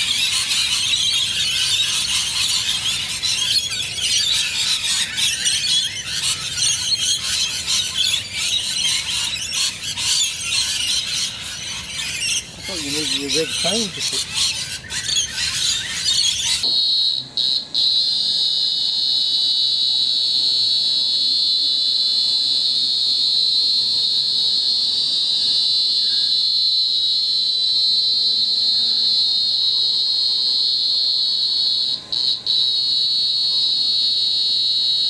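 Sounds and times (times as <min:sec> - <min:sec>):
cicada buzzing: 0:00.0 - 0:35.0.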